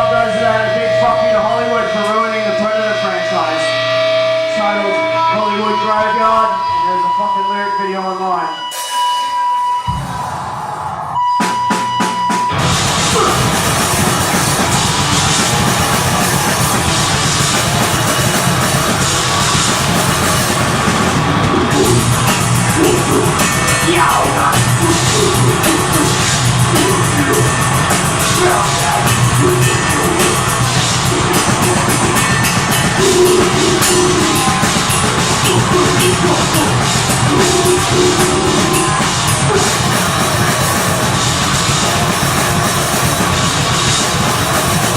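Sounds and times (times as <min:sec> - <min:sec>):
steady high tone: 0:00.0 - 0:10.0, 0:11.1 - 0:43.6
metal band playing loud: 0:00.0 - 0:44.9.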